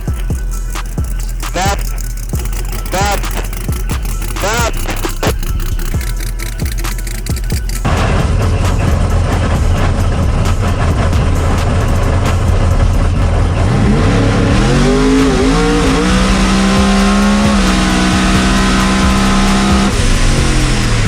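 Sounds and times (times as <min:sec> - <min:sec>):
drag race car engine: 0:00.0 - 0:21.0.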